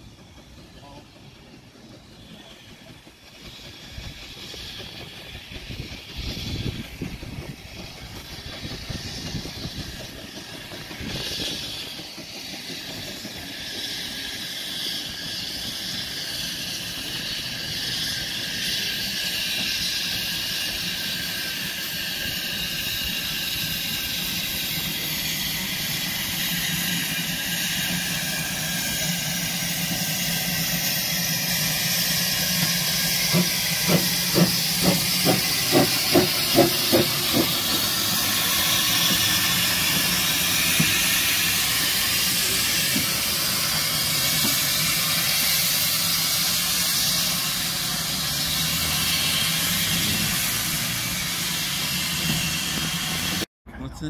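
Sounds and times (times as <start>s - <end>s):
steam hissing: 0.0s - 53.5s
steam locomotive approaching: 0.0s - 54.0s.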